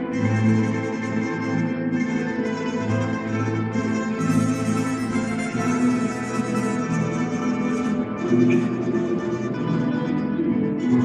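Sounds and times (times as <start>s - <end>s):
plucked-string orchestra playing a waltz: 0.0s - 11.0s.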